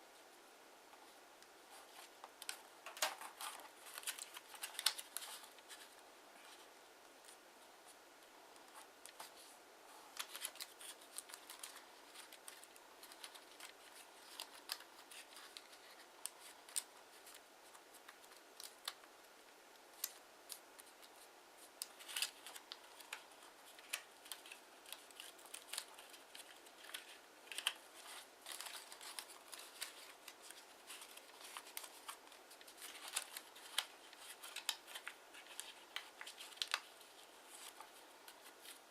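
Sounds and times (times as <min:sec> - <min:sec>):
paper folding and crackling: 0:01.7 - 0:38.9.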